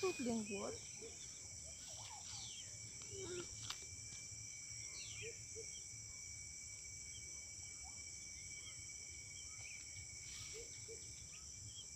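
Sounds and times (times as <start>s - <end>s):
crickets trilling: 0.0s - 11.9s.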